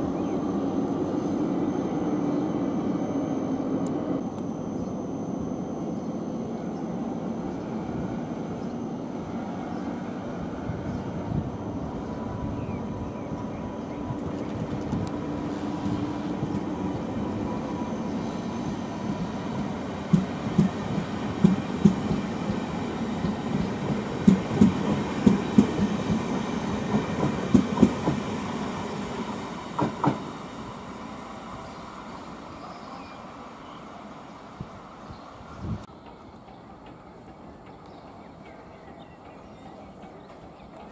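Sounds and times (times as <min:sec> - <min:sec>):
train rumbling on track: 0:00.0 - 0:40.9.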